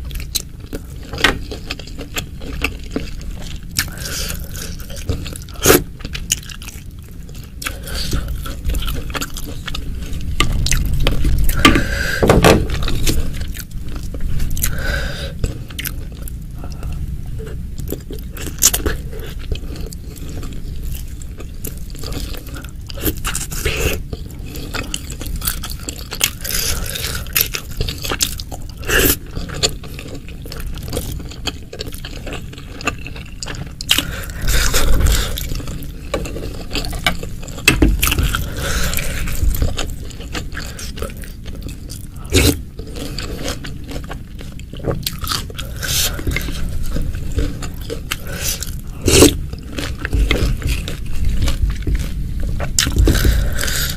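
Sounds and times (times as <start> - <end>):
wet chewing and biting: 0.0 - 17.0, 17.8 - 53.9.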